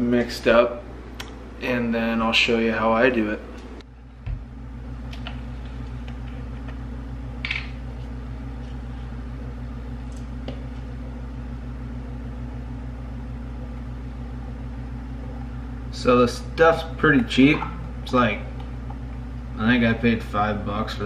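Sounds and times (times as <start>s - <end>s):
appliance hum: 0.0s - 21.0s.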